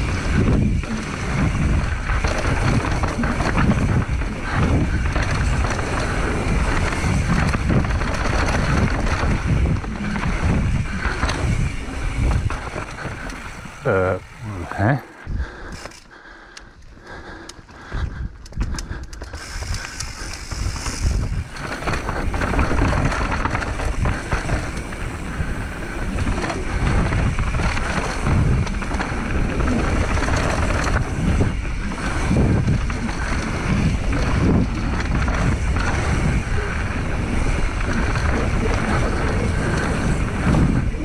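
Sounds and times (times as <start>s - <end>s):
wind rumbling on microphone: 0.0s - 15.8s, 16.8s - 41.0s
bike tyres rolling over stones: 0.0s - 16.1s, 17.0s - 41.0s
bike rattling: 0.0s - 41.0s.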